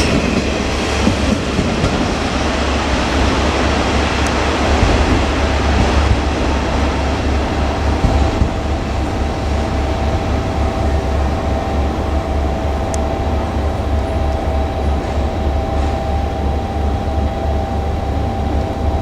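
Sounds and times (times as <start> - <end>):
diesel train rumble: 0.0 - 19.0
train whine: 0.0 - 19.0.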